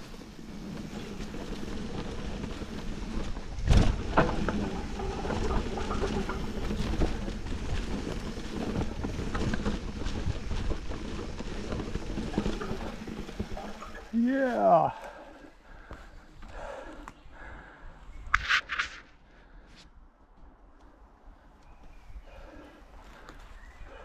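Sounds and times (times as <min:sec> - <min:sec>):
bike tyres rumbling on dirt: 0:00.0 - 0:19.7, 0:21.4 - 0:24.0.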